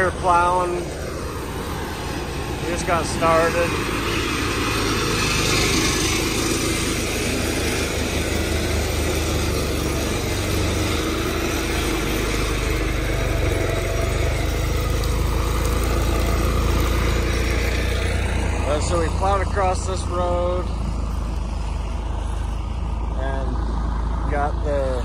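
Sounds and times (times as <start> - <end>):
vibratory plow engine droning: 0.0 - 25.0.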